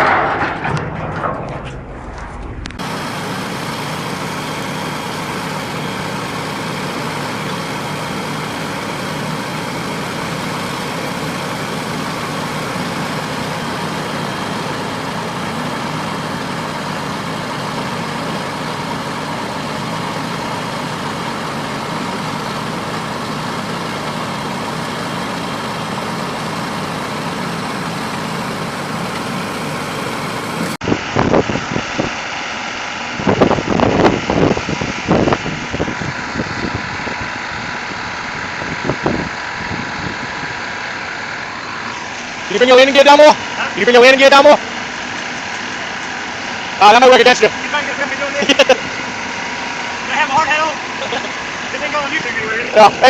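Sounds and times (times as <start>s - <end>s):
heavy vehicle engine running: 0.0s - 53.0s.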